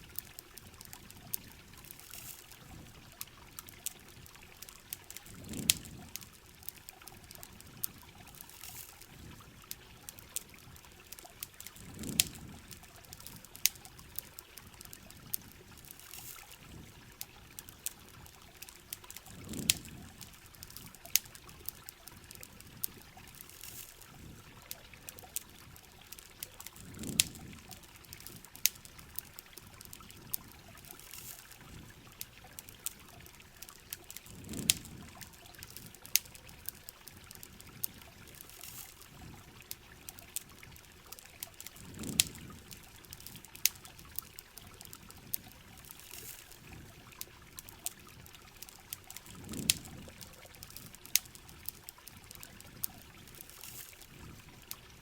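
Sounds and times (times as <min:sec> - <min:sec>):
campfire crackling: 0:00.0 - 0:55.0
rain pouring: 0:00.0 - 0:55.0.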